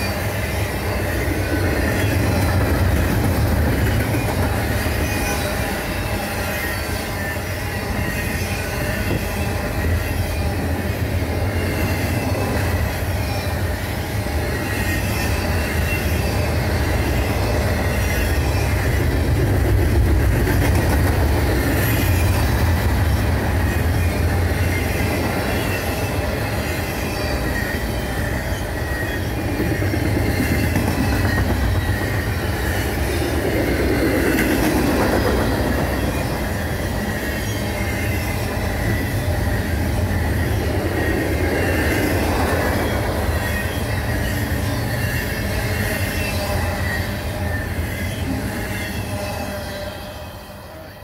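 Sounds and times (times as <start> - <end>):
freight cars rumbling on rails: 0.0 - 50.6
faint high wheel squeal: 0.0 - 51.0.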